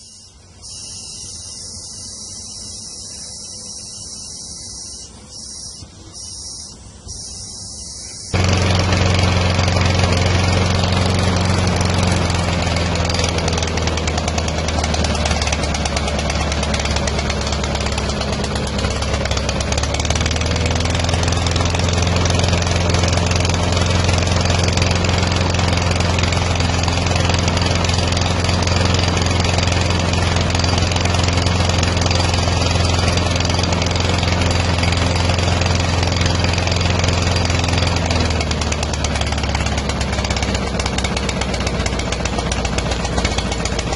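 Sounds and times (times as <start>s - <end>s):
mower engine running steadily: 0.0s - 43.9s.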